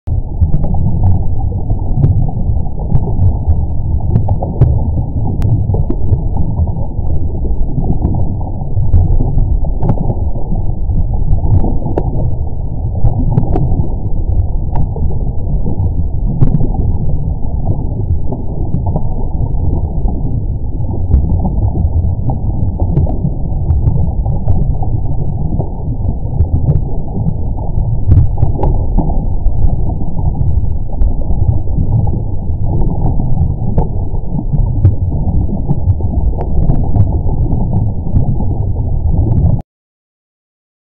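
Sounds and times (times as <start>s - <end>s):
deep muffled rumble: 0.1s - 39.6s
faint crackles: 0.1s - 39.6s.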